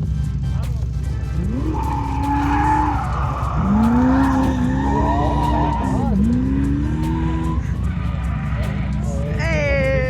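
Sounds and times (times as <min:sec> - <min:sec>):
tyres squealing and skidding: 0:00.6 - 0:09.5
car engine revving hard: 0:01.1 - 0:09.3.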